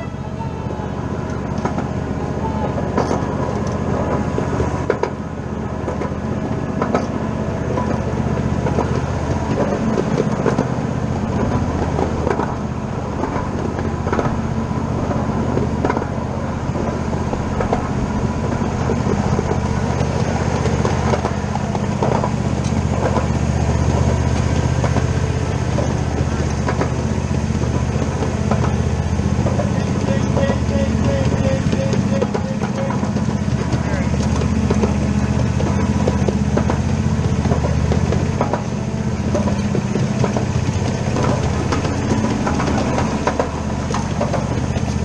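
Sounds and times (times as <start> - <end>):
small track clicks: 0.0 - 5.2, 5.8 - 12.6, 13.2 - 14.4, 15.1 - 16.2, 16.8 - 45.0
ride-on train low hum: 0.0 - 45.0.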